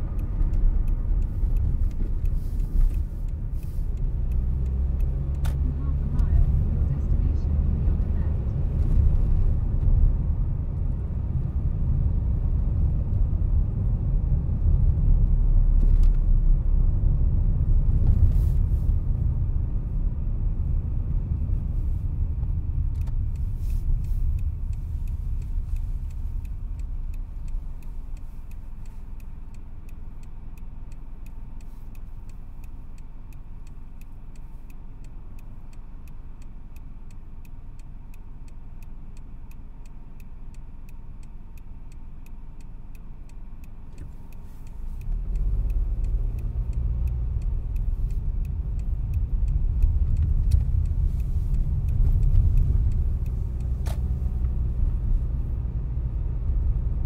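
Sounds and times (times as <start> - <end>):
car idling hum: 0.0 - 57.0
turn indicator ticking: 0.0 - 57.0.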